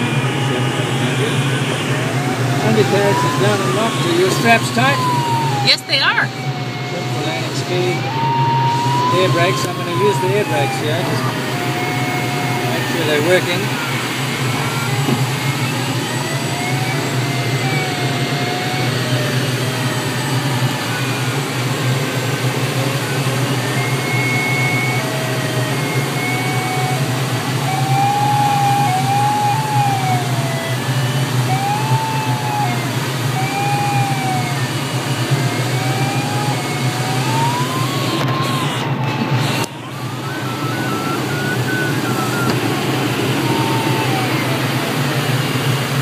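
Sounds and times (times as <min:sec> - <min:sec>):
rushing airflow in cockpit: 0:00.0 - 0:46.0
wavering electronic beeping tone: 0:00.0 - 0:46.0.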